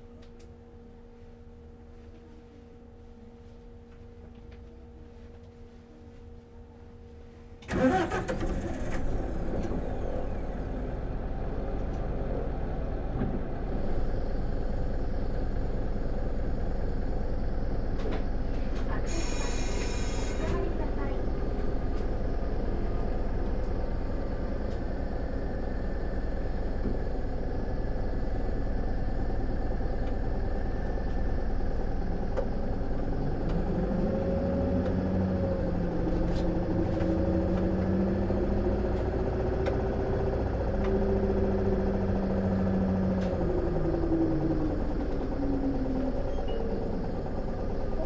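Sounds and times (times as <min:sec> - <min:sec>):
bus diesel engine idling: 0:07.6 - 0:48.0.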